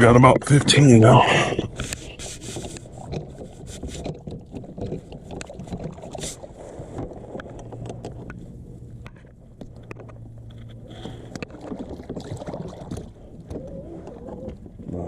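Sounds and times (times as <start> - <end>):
knocks and clicks against kayak hull: 0.0 - 15.0
steady low hum: 0.0 - 15.0.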